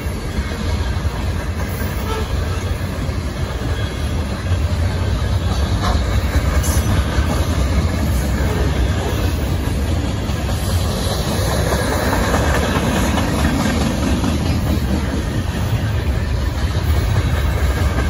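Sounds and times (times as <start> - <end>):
steel wheels rumbling on rails: 0.0 - 18.0.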